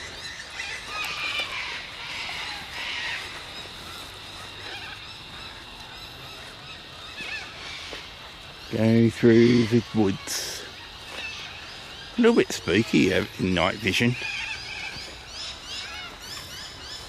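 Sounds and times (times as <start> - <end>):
birds chirping: 0.0 - 17.0
raspy bird calls: 0.0 - 17.0.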